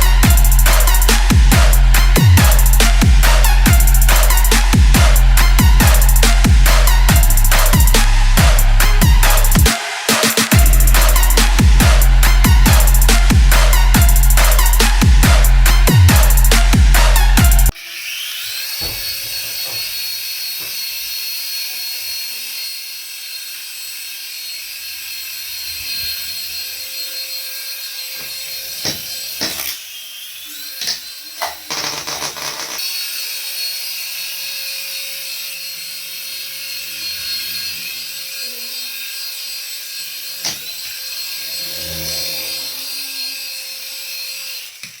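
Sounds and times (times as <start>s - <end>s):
toy electric motor whirring: 0.0s - 45.0s.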